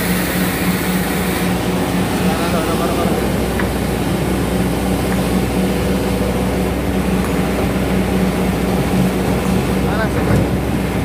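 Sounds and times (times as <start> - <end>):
excavator diesel engine humming: 0.0 - 11.0.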